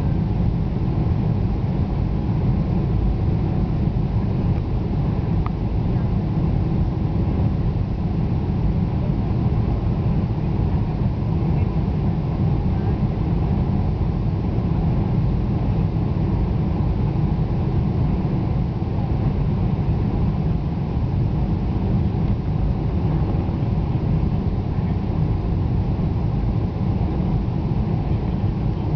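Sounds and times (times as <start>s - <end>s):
airplane cabin engine rumble: 0.0s - 28.9s.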